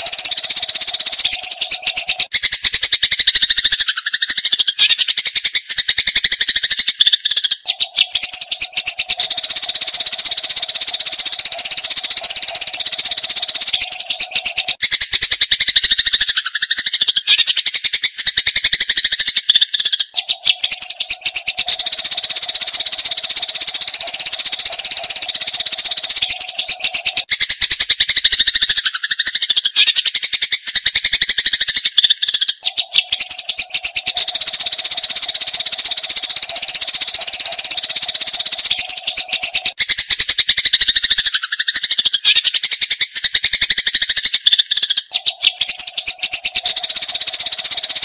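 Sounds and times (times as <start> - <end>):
sparrows chattering: 0.0 - 48.0.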